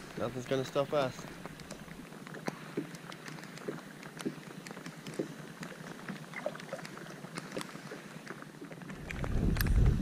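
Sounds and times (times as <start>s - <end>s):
paddle splashes and drips: 0.0s - 9.4s.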